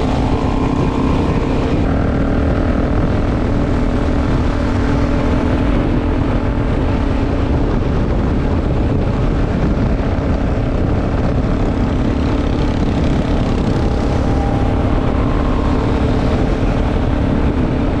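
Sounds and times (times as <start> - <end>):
motorcycle engine cruising: 0.0 - 18.0
wind and road rush: 0.0 - 18.0.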